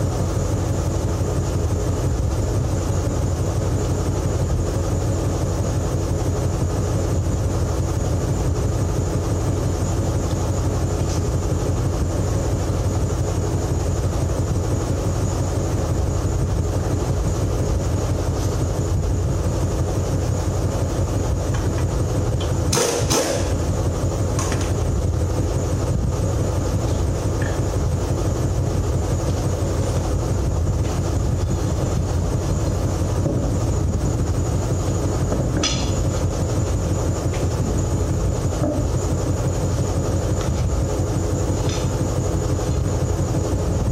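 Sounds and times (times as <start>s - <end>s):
engine running: 0.0s - 43.9s.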